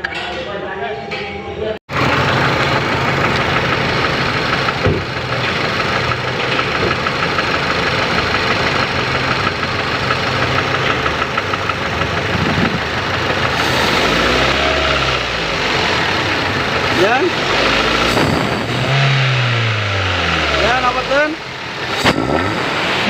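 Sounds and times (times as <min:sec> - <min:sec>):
car engine idling: 0:01.9 - 0:23.0.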